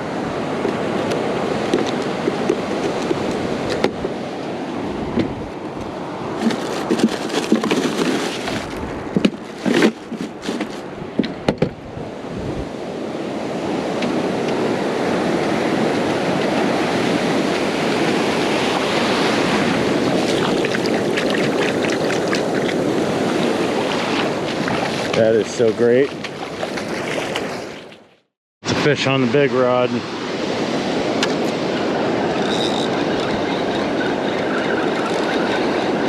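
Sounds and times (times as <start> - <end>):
wind on microphone: 0.0 - 27.7, 30.1 - 36.0
ocean surf washing: 0.0 - 28.0, 28.6 - 36.0.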